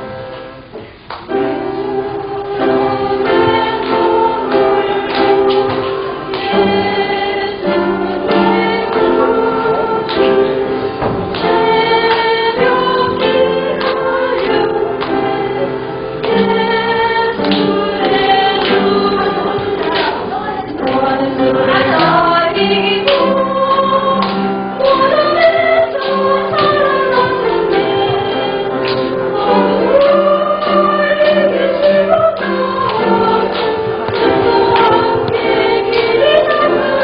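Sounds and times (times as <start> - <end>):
instrumental accompaniment: 0.0 - 37.0
church choir singing a hymn: 1.3 - 37.0.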